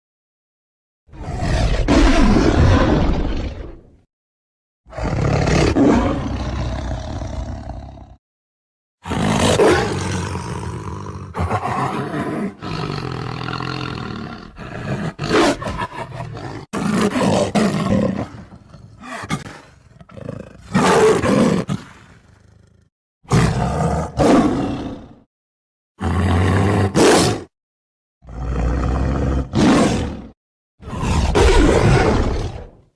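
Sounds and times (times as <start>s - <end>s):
tiger roaring and growling: 1.1s - 4.0s, 4.9s - 8.2s, 9.0s - 25.3s, 26.0s - 27.5s, 28.2s - 32.9s.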